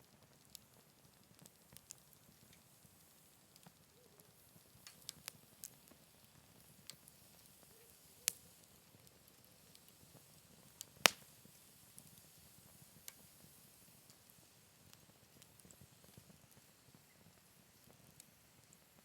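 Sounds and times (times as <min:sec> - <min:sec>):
campfire crackling: 0:00.0 - 0:19.0
faint steady hiss: 0:00.0 - 0:19.0.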